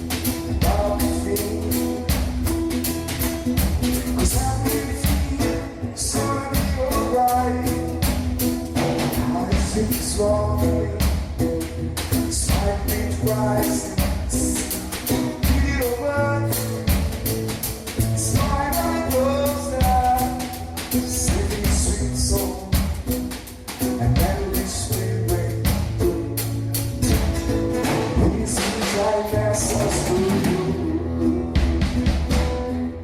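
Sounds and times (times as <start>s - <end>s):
drum kit: 0.0s - 33.0s
strummed acoustic guitar: 0.0s - 33.0s
person singing: 0.3s - 2.3s, 3.9s - 8.1s, 9.0s - 23.2s, 23.8s - 33.0s.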